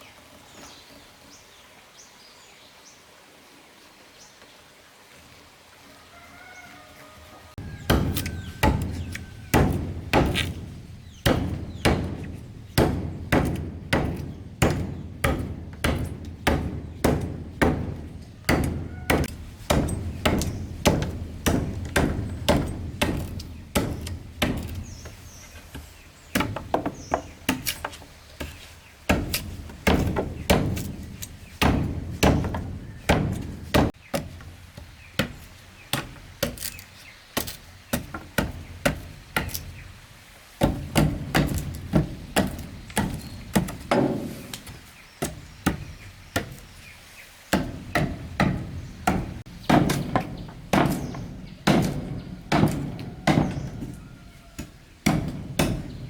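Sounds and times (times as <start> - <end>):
hand tool striking wood: 7.6 - 39.8, 40.6 - 46.9, 47.5 - 56.0.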